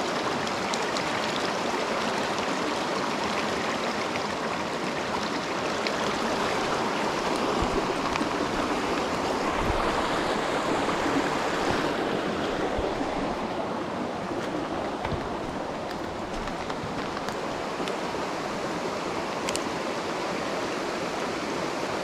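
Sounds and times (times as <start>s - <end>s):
stream water rushing over rocks: 0.0s - 22.0s.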